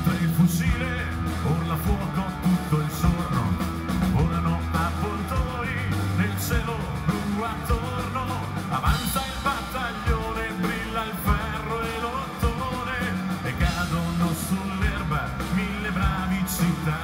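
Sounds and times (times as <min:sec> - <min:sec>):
lead singer vocals: 0:00.0 - 0:17.0
live rock band playing: 0:00.0 - 0:17.0.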